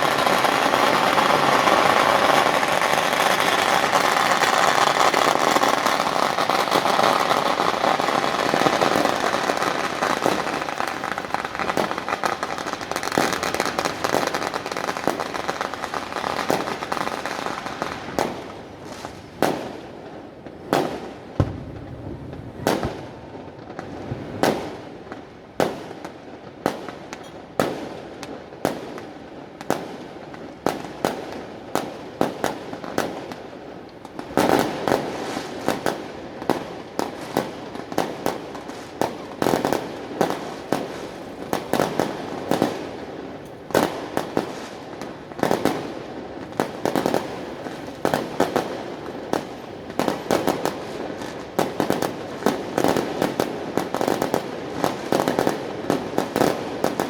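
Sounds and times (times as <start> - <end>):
fireworks loud bangs: 0.0 - 25.0, 34.0 - 57.0
firecrackers crackling: 0.0 - 57.0.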